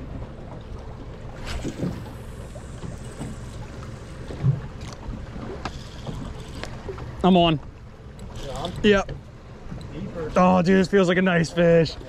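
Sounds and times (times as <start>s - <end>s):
water slapping a boat: 0.0s - 12.0s.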